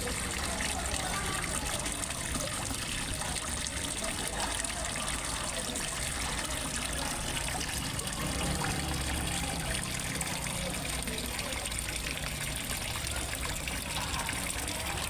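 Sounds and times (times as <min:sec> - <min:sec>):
small waterfall trickling and splashing: 0:00.0 - 0:15.0.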